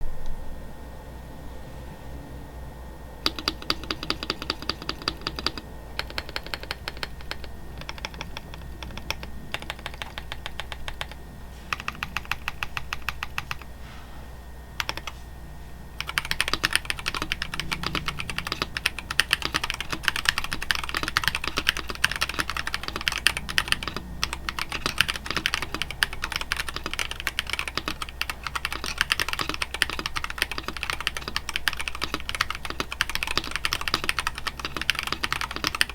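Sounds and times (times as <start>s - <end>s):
mechanical keyboard typing: 3.2s - 13.7s, 14.8s - 15.2s, 16.0s - 35.9s.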